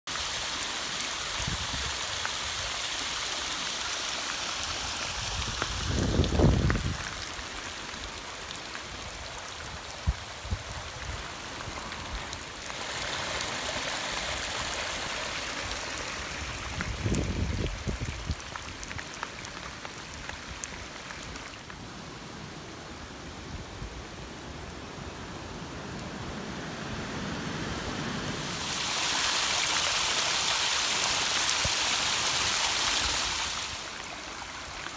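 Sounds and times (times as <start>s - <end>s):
floodwater rushing over rock: 0.1s - 34.9s.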